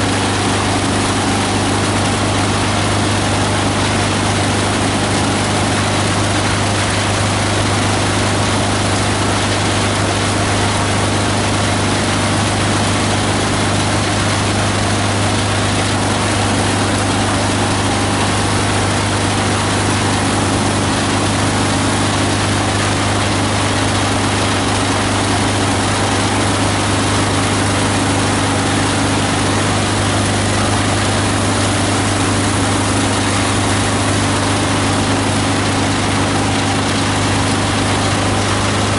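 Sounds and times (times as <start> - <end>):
diesel engine running grinder: 0.0 - 38.9.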